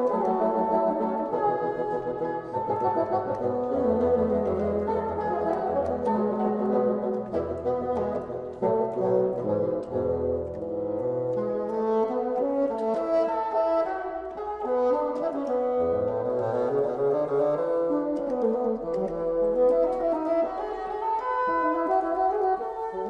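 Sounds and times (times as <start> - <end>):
bassoon quartet playing: 0.0 - 23.0.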